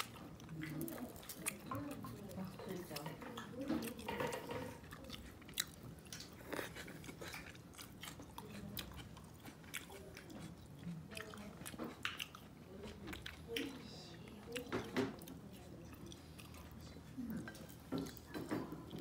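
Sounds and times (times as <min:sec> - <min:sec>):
person chewing: 0:00.0 - 0:04.1, 0:04.7 - 0:19.0.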